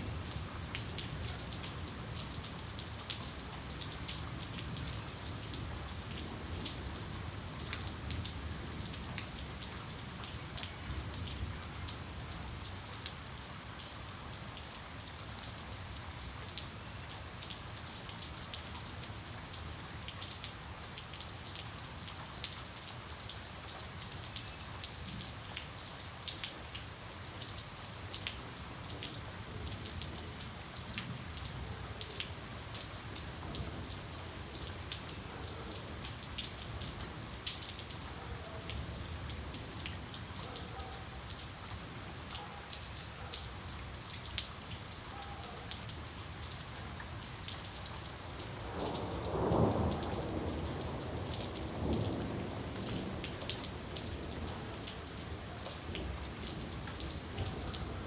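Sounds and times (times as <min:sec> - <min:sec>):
rain pattering on hard surface: 0:00.0 - 0:58.0.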